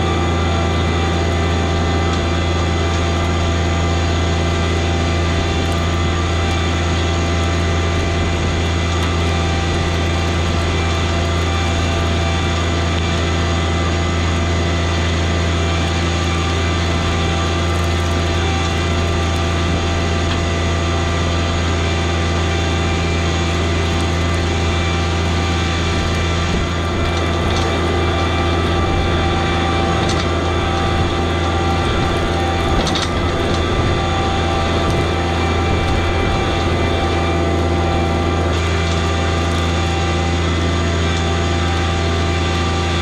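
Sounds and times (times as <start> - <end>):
tractor diesel engine droning: 0.0 - 43.0.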